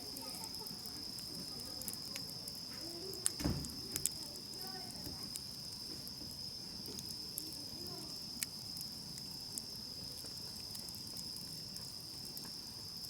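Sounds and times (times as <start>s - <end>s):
campfire crackling and popping: 0.0s - 13.0s
insects trilling: 0.0s - 13.0s.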